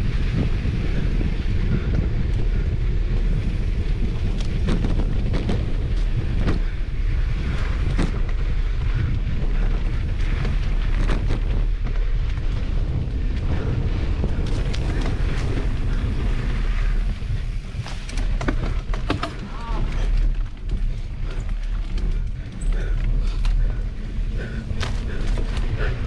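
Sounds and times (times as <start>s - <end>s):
bike rattling over ground: 0.0s - 26.0s
wind buffeting microphone: 0.0s - 26.0s.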